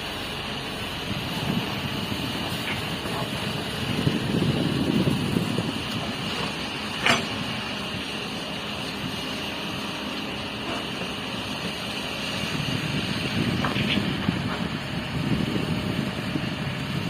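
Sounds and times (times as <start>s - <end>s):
heavy construction machinery running: 0.0s - 17.0s.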